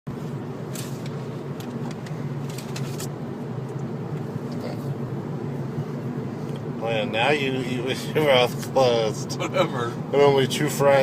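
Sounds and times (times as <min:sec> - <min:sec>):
car engine drone in cabin: 0:00.1 - 0:11.0.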